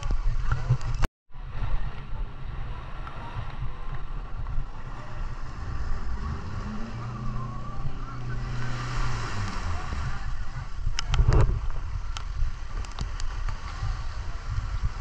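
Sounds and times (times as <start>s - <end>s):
motorboat engine running: 0.0s - 15.0s
wind buffeting the microphone: 0.0s - 15.0s.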